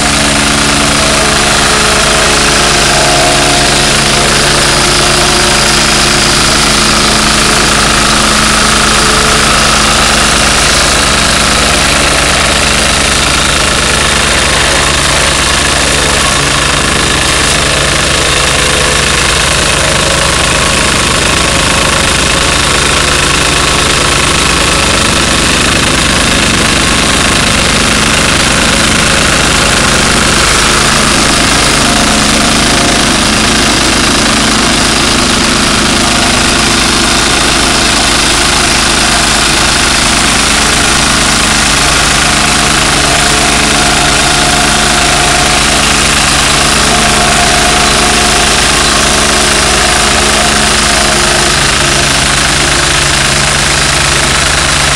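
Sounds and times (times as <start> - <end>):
diesel engine knocking: 0.0 - 54.9
plate compactor vibrating on gravel: 0.0 - 54.9.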